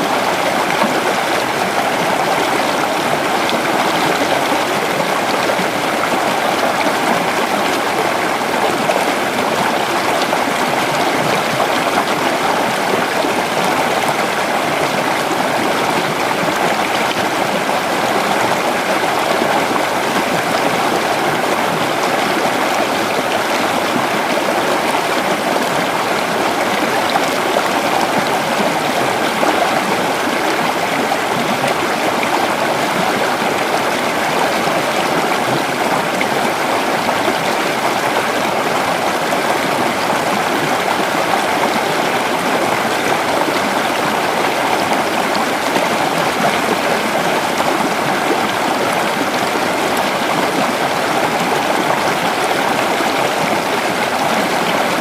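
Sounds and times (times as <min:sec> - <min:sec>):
creek water running over rocks: 0:00.0 - 0:55.0.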